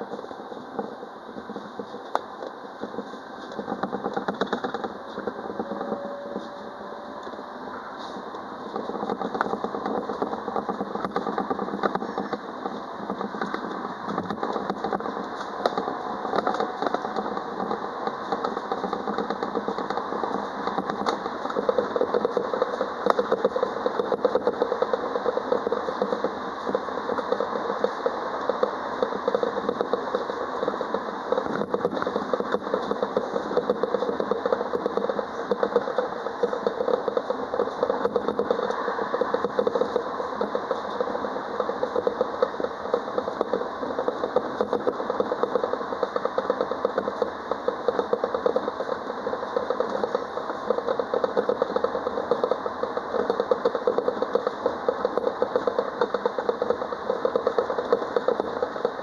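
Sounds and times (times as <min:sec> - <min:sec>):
steady humming tone: 0:00.0 - 0:59.0
tram wheels and traction hum: 0:00.0 - 0:59.0.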